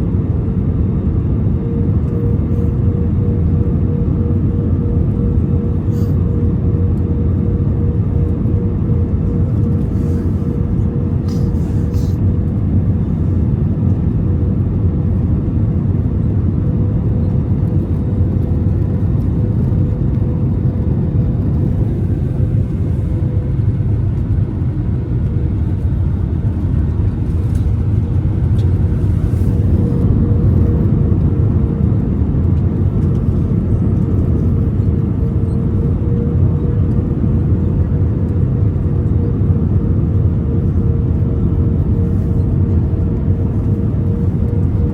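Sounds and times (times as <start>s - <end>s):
engine and air rumble: 0.0s - 44.9s
steady hum: 0.0s - 44.9s.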